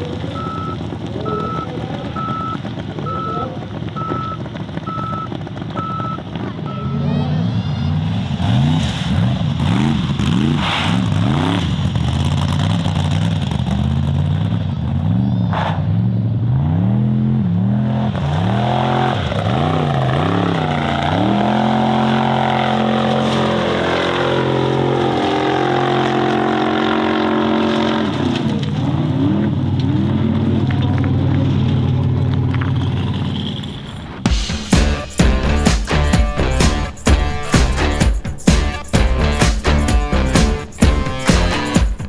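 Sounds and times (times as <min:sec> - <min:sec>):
buggy engine revving: 0:00.0 - 0:42.0.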